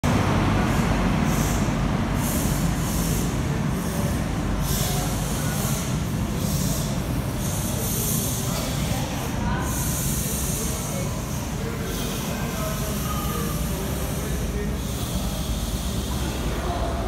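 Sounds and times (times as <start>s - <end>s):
diesel train rumbling: 0.0s - 17.0s
surges of hiss: 0.6s - 17.0s.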